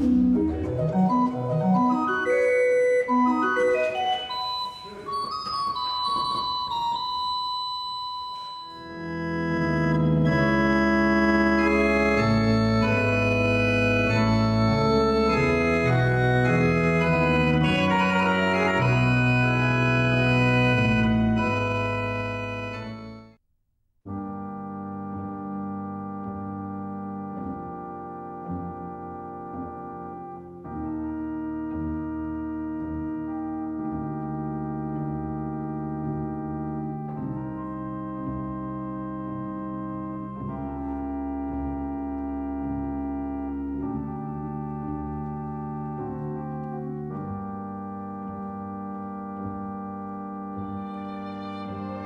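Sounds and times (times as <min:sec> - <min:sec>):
loud pipe organ chords: 0:00.0 - 0:23.4, 0:24.1 - 0:52.0.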